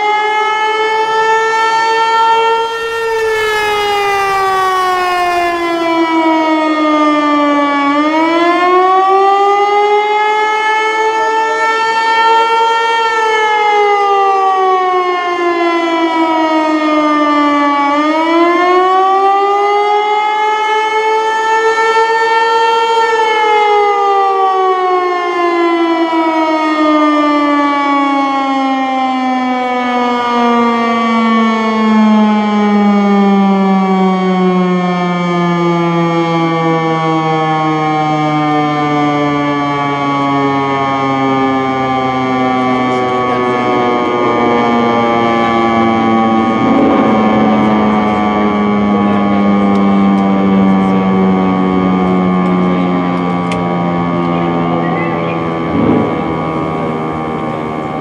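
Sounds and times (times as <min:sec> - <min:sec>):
warning siren wailing: 0:00.0 - 0:58.0.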